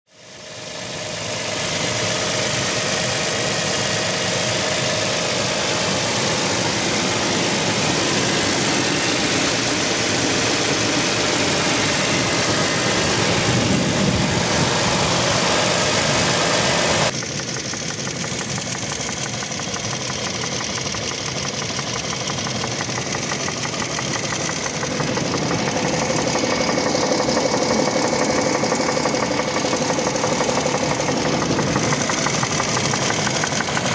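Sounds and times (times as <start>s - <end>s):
car engine idling: 0.1s - 33.9s
engine knock: 0.1s - 33.9s.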